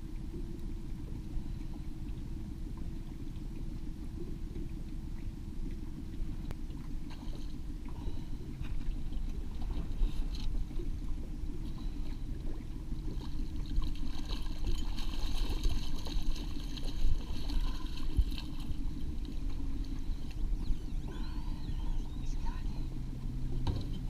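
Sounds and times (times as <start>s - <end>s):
boat motor low rumble: 0.0s - 24.0s.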